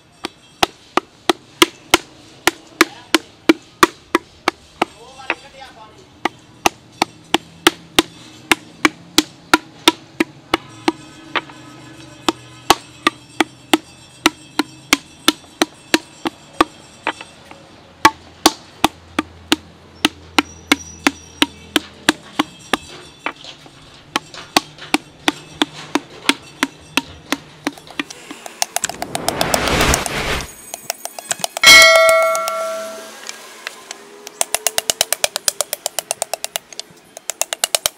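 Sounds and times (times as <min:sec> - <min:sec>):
wooden paddle slapping clay pot: 0:00.2 - 0:05.4, 0:06.2 - 0:11.5, 0:12.2 - 0:16.8, 0:18.0 - 0:23.4, 0:24.0 - 0:33.0, 0:34.3 - 0:37.9.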